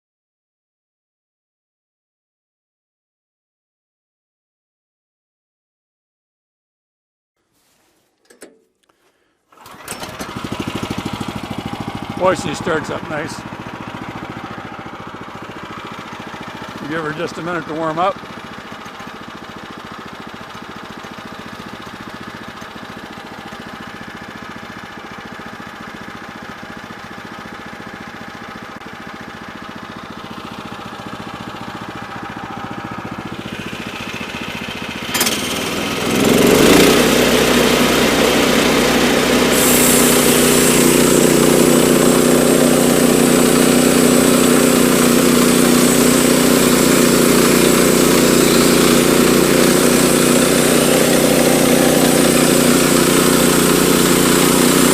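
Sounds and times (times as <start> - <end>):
gas engine running: 8.9 - 54.9.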